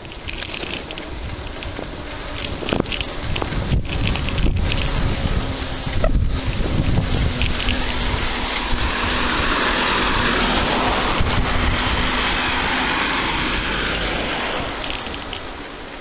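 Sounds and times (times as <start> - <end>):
car passing: 0.0 - 16.0
wind rushing over microphone: 0.0 - 16.0.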